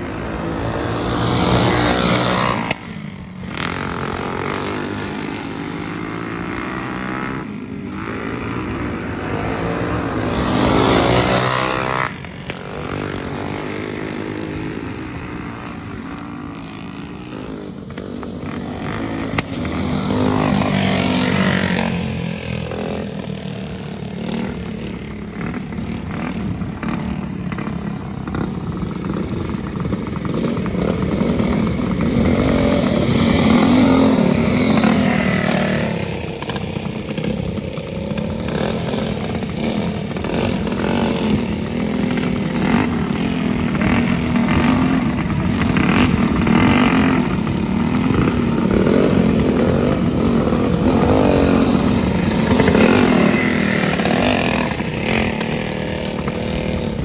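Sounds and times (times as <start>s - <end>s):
go-kart engines racing: 0.0s - 57.0s.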